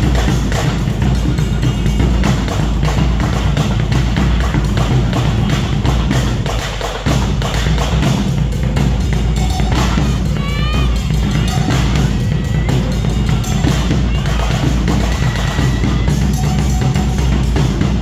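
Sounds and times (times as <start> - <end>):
dance music with heavy bass: 0.0 - 18.0.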